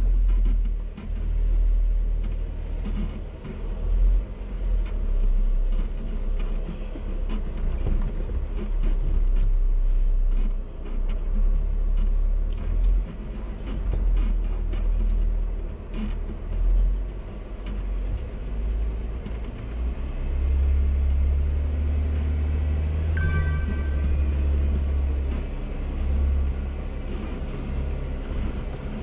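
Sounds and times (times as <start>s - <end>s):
engine and drivetrain rumble: 0.0s - 29.0s.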